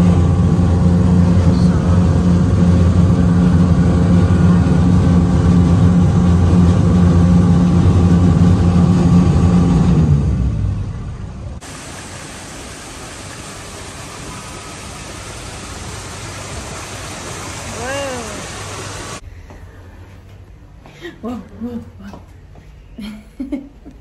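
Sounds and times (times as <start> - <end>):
raft engine humming: 0.0 - 22.6.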